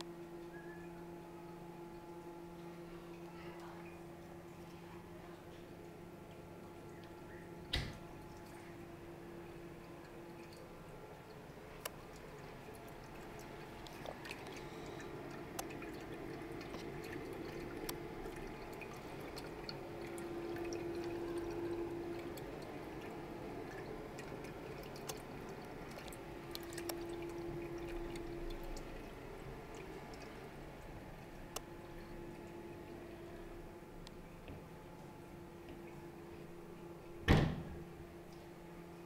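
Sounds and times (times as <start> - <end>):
water drips: 0.0 - 37.3
water trickling and splashing: 0.0 - 38.5
steady hum: 0.0 - 39.0.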